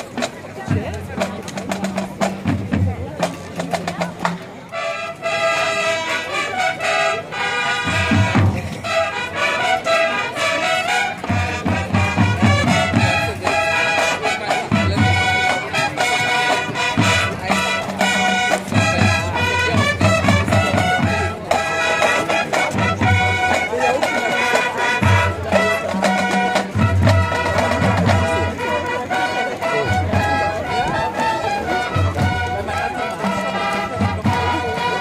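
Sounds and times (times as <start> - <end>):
low drum beats: 0.0 - 4.8, 7.8 - 9.3, 10.9 - 35.0
brass fanfare: 4.7 - 35.0.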